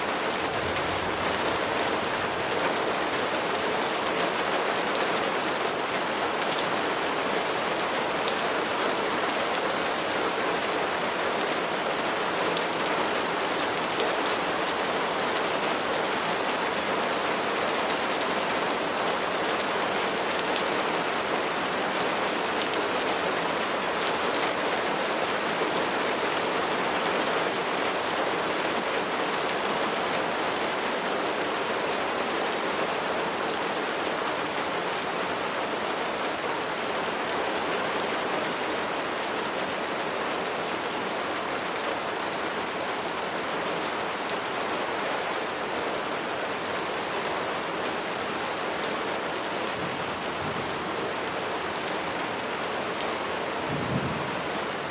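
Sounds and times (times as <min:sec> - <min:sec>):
rain pattering on a surface: 0:00.0 - 0:54.9.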